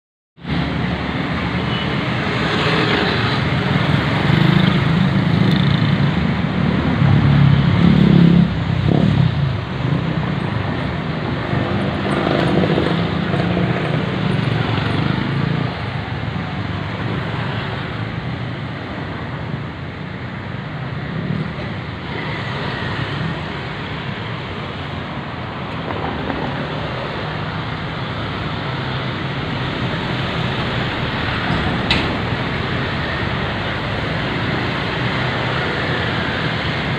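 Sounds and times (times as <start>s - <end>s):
road traffic hum: 0.4s - 36.9s.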